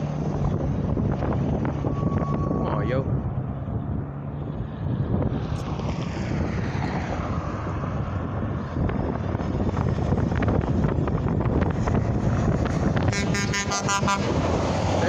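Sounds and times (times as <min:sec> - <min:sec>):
highway traffic rushing past: 0:00.0 - 0:15.0.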